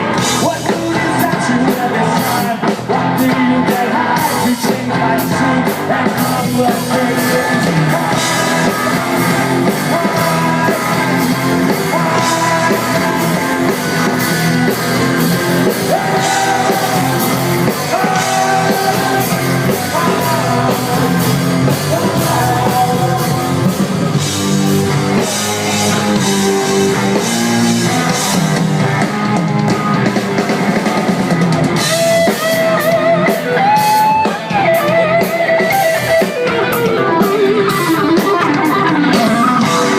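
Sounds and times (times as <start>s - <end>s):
person singing: 0.0s - 24.1s, 31.8s - 39.9s
drum kit: 0.0s - 39.9s
electric guitar: 0.0s - 39.9s.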